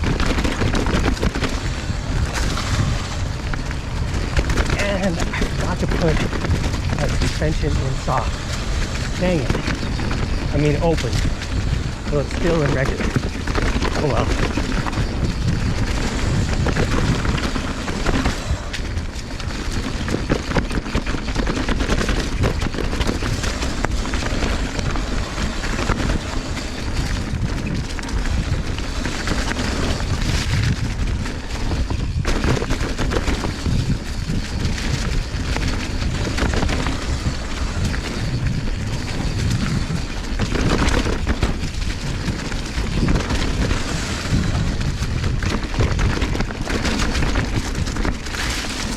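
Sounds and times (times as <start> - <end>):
bike rattling and knocking: 0.0 - 48.9
bike tyres rolling over ground: 0.0 - 48.9
wind buffeting on microphone: 0.0 - 48.9.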